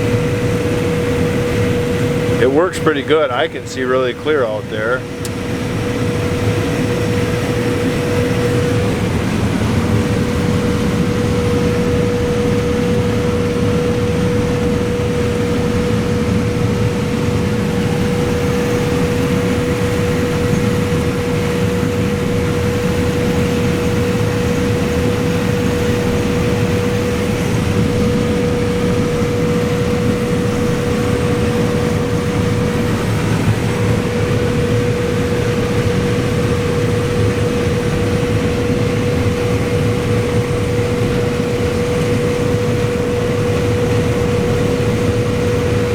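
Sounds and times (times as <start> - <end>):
combine harvester droning: 0.0 - 45.9.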